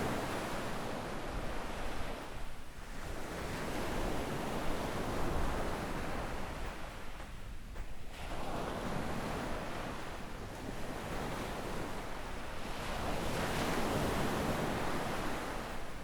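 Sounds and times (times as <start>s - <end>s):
waves washing up a sandy beach: 0.0s - 16.0s
wind on microphone: 0.0s - 16.0s.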